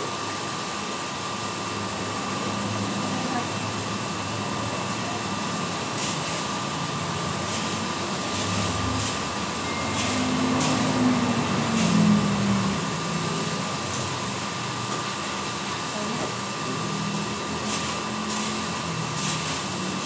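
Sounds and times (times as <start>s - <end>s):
roaster fan whirring: 0.0s - 20.0s.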